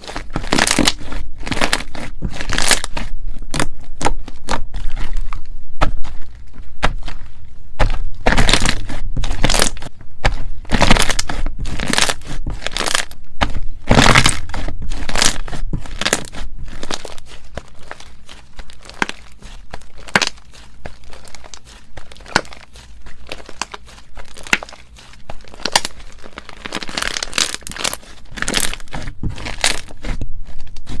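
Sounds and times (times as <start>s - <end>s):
slime crackling and popping: 0.0s - 31.0s.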